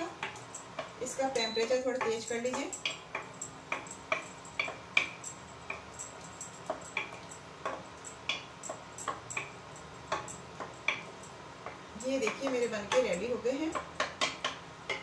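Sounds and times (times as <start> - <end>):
spatula tapping pan sides: 0.0 - 5.9, 6.6 - 15.0.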